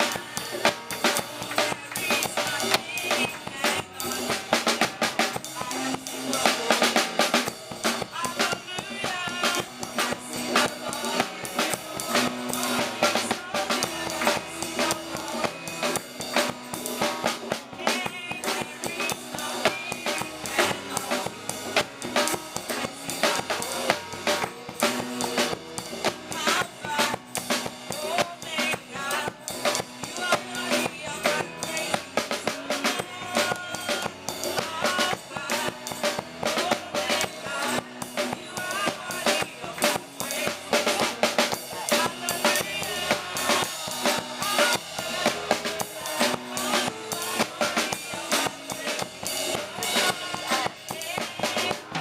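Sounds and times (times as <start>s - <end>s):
drum kit beat: 0.0s - 52.0s
live gospel band playing: 0.0s - 52.0s.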